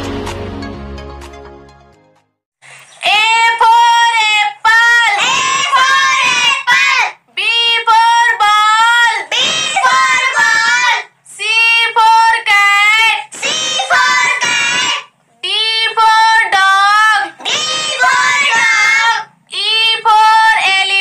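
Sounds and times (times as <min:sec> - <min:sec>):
child singing: 0:03.0 - 0:11.1, 0:12.0 - 0:21.0.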